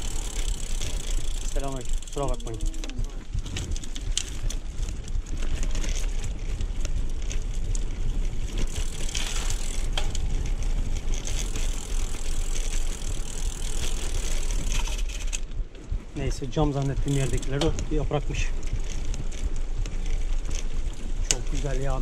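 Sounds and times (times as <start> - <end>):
bike rattles and clicks: 0.0 - 22.0
bike tyre rumble on concrete: 0.0 - 22.0.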